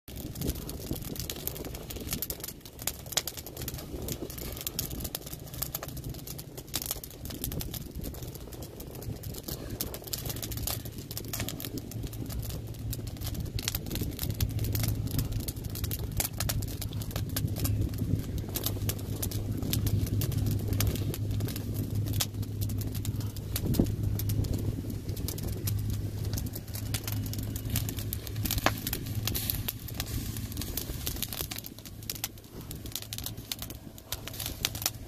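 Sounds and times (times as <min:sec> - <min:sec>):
low steady rumble: 0:00.1 - 0:35.0
wood fire crackling and popping: 0:00.1 - 0:35.0.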